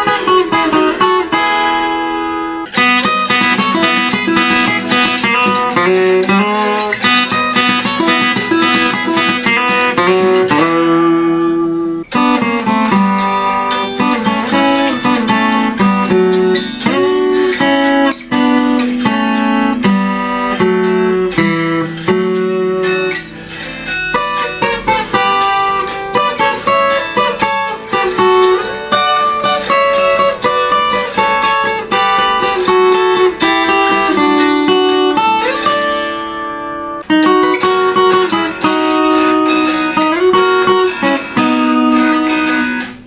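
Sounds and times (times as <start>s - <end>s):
acoustic guitar instrumental: 0.0s - 43.0s.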